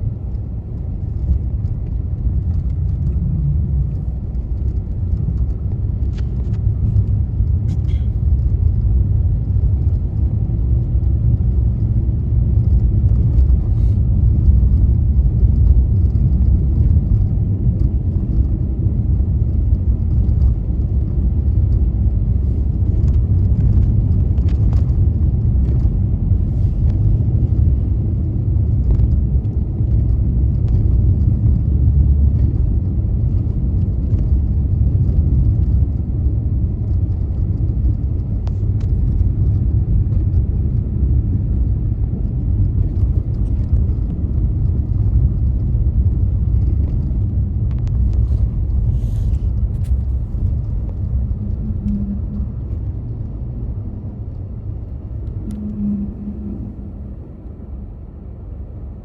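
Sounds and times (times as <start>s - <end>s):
tyres and engine rumble: 0.0s - 59.0s.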